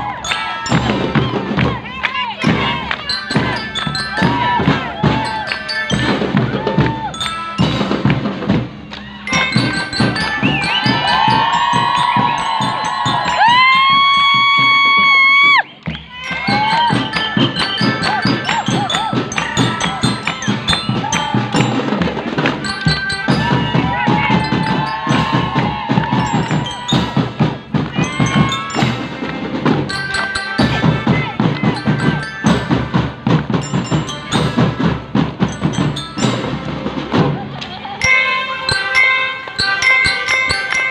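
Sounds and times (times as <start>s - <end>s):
mallet bells melody: 0.0s - 40.9s
marching drums: 0.0s - 40.9s.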